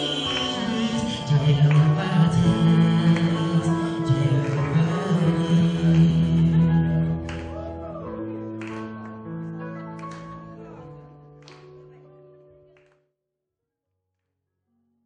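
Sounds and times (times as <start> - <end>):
background music with held notes: 0.0 - 13.0.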